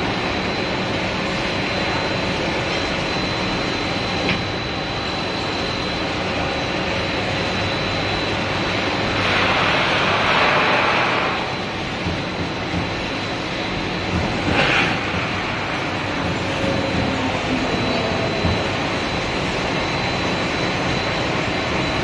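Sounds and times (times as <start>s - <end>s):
machinery hum with high whine: 0.0s - 22.0s.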